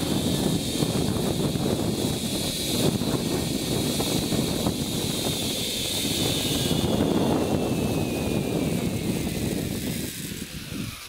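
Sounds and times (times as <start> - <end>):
wind on microphone: 0.0 - 11.0
zipline trolley whine: 0.0 - 11.0.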